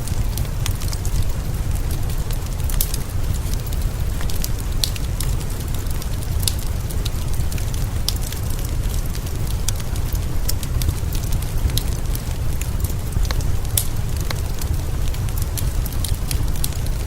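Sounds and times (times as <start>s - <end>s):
rain hissing: 0.0s - 17.0s
wood fire crackling: 0.0s - 17.0s.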